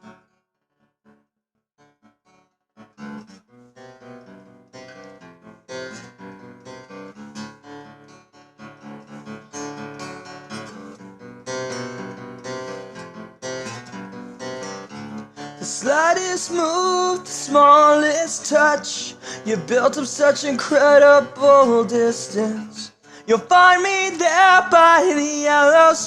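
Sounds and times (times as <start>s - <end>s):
acoustic guitar strumming chords: 2.8s - 26.0s.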